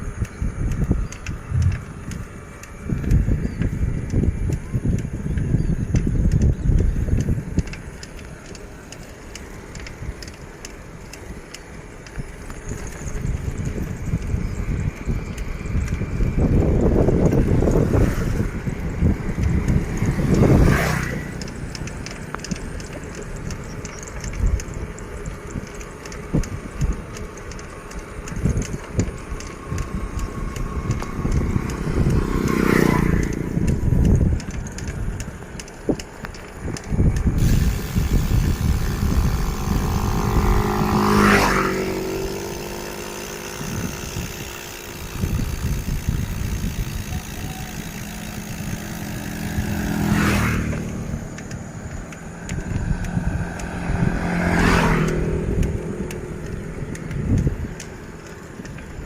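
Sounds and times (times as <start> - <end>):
motor vehicles passing: 0.0 - 59.0
wind rumble on microphone: 0.0 - 59.0.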